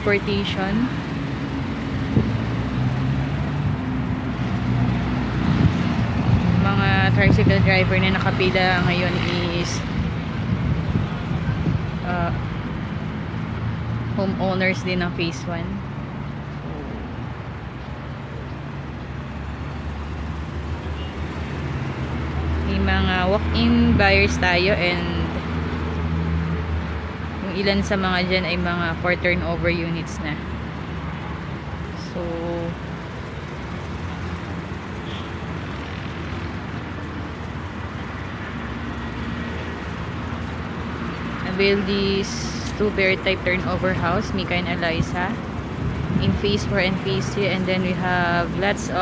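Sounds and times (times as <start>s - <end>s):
low engine hum: 0.0s - 49.0s
outdoor background rumble: 0.0s - 49.0s
road traffic noise: 0.0s - 49.0s.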